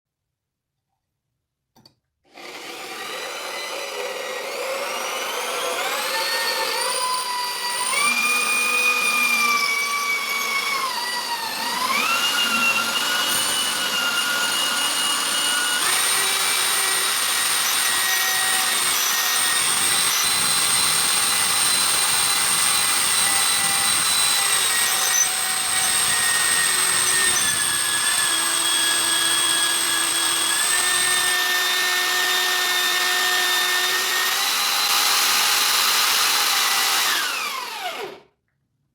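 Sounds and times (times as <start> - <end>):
power tool motor whining: 2.4 - 38.2.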